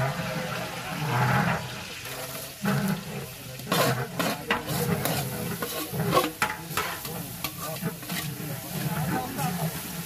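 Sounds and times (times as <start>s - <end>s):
metal ladle scraping a pot: 0.0s - 10.0s
onions sizzling in hot oil: 0.0s - 10.0s.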